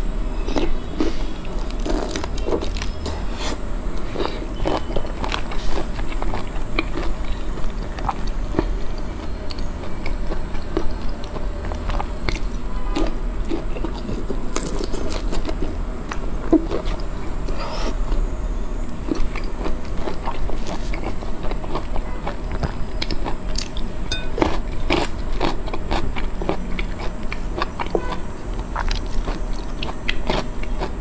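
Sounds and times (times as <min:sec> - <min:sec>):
person biting and chewing: 0:00.4 - 0:18.3, 0:18.9 - 0:31.0.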